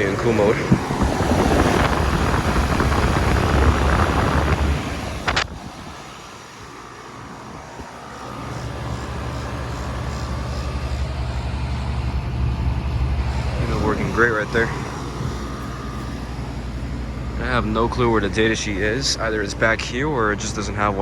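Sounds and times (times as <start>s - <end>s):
heat pump air rush and hum: 0.0s - 21.0s.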